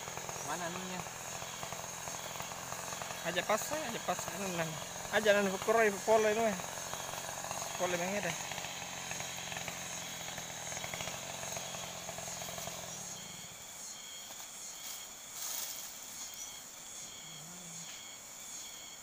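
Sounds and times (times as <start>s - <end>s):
low motor hum: 0.0s - 18.3s
insects chirring: 0.0s - 19.0s.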